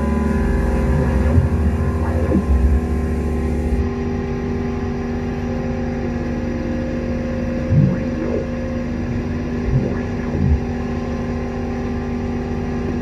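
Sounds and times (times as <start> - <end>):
synthesizer drone: 0.0 - 13.0.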